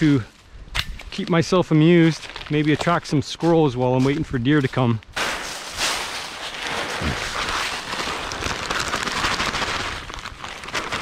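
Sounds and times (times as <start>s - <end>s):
corn kernels pattering on leaves: 1.2s - 3.2s, 4.0s - 11.0s.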